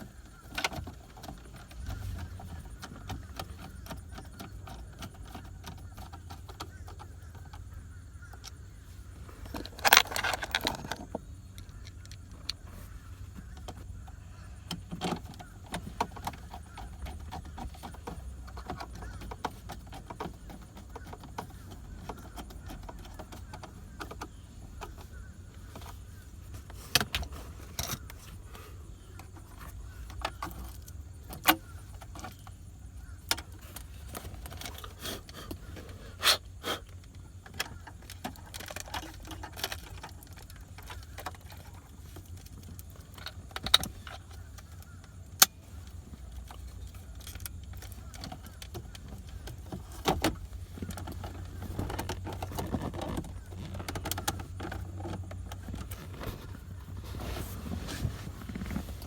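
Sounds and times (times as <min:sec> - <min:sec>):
plastic parts clicking and knocking: 0:00.0 - 0:35.9, 0:36.9 - 0:57.0.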